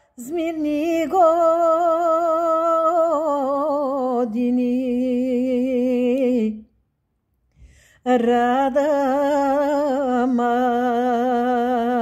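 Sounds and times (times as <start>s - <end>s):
woman singing unaccompanied: 0.0s - 6.7s, 8.0s - 12.0s.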